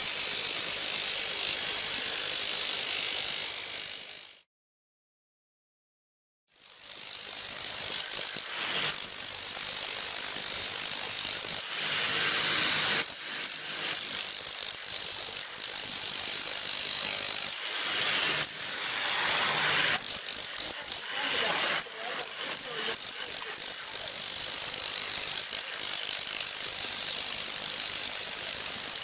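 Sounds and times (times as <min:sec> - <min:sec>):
electric demolition hammer chiseling: 0:00.0 - 0:04.5, 0:06.5 - 0:29.0.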